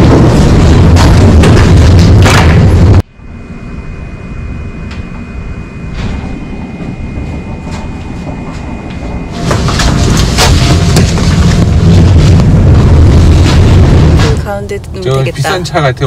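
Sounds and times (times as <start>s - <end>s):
low steady rumble: 0.0s - 16.0s
faint high whine: 2.6s - 16.0s.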